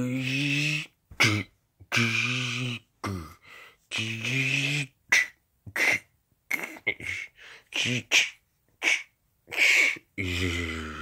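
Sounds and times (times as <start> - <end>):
short sharp vocal noises: 0.0 - 11.0.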